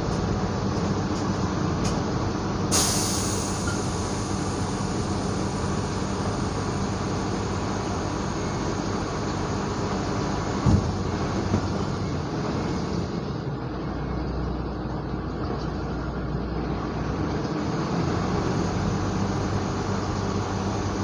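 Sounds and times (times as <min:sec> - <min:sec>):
vehicle noise rumble: 0:00.0 - 0:21.0.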